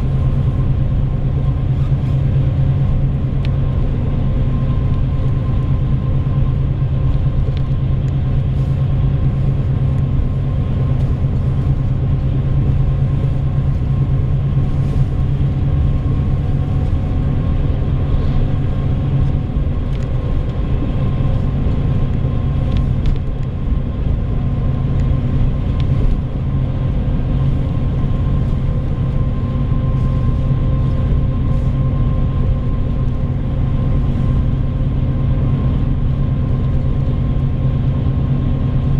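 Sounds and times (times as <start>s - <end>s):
bus engine and tyre drone: 0.0s - 38.9s
faint steady whine: 0.0s - 38.9s.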